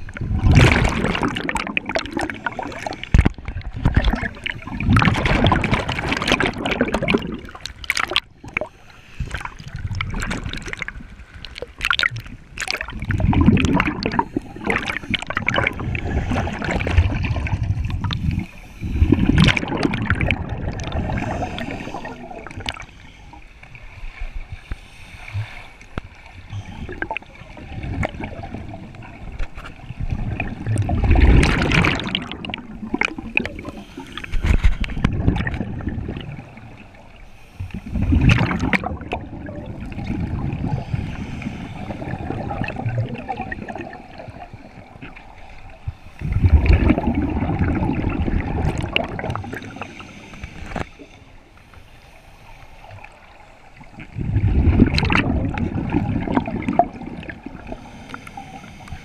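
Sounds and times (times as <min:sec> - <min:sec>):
underwater regulator bubbles gurgling: 0:00.0 - 0:23.7, 0:24.6 - 0:51.2, 0:53.0 - 0:59.0
underwater water noise: 0:00.0 - 0:59.0.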